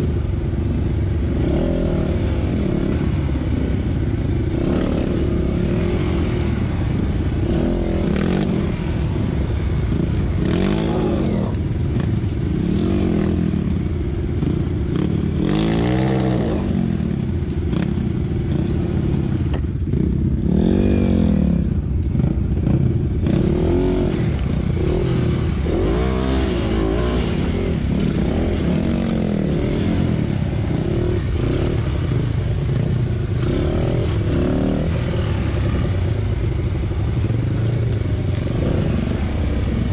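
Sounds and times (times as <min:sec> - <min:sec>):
dirt bike engine revving: 0:00.8 - 0:39.9.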